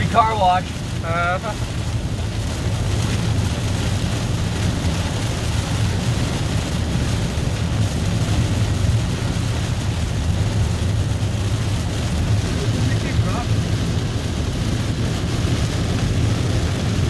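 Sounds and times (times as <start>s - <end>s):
car engine rumble: 0.0s - 17.0s
rain and road spray hiss: 0.0s - 17.0s.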